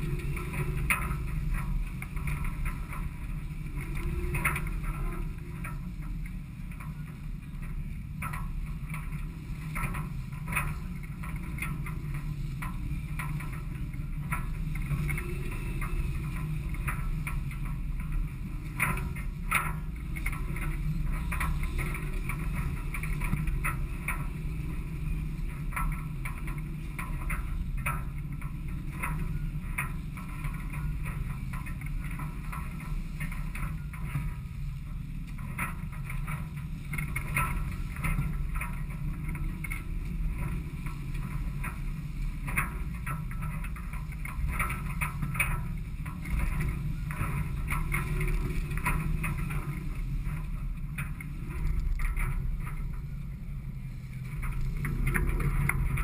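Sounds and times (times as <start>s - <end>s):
water rushing along hulls: 0.0s - 56.0s
wind buffeting microphone: 0.0s - 56.0s.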